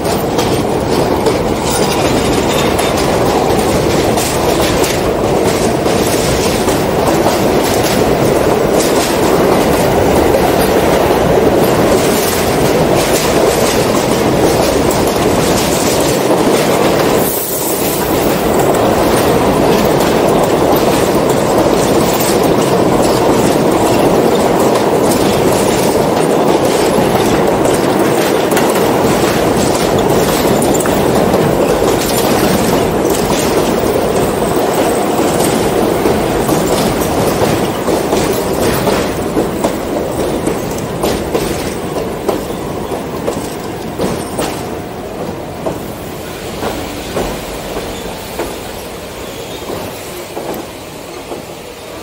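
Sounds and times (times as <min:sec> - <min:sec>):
train rumbling: 0:00.0 - 0:52.0
wheels clacking over rail joints: 0:00.0 - 0:52.0.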